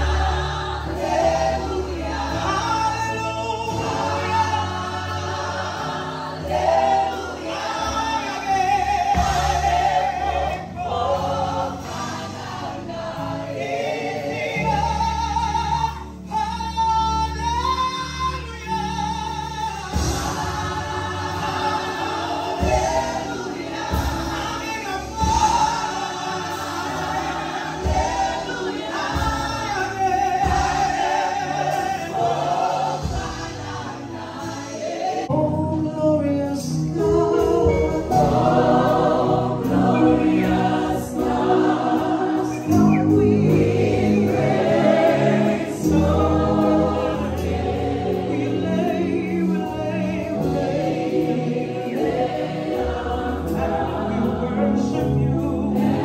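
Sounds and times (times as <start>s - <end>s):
choir singing gospel: 0.0s - 56.0s.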